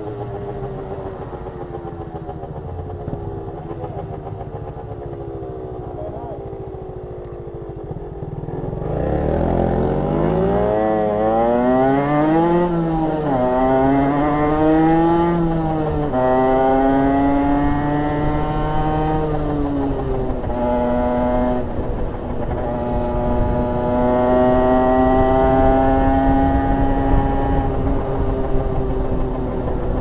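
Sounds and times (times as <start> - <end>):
two-stroke engine accelerating: 0.0 - 30.0.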